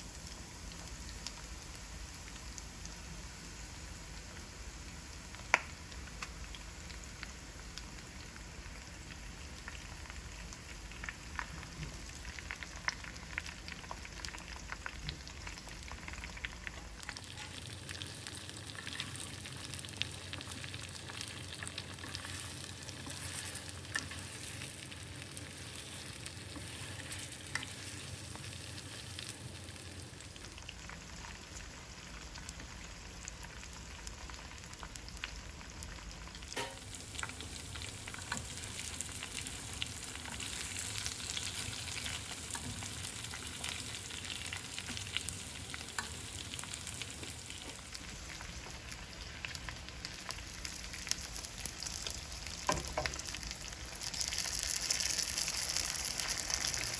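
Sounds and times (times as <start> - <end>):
food sizzling in hot oil: 0.0 - 56.9.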